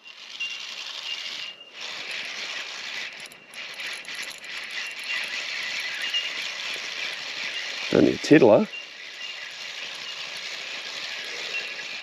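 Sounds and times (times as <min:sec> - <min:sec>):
birds calling high ringing note: 0:00.0 - 0:12.0
fishing reel rattling: 0:00.0 - 0:12.0.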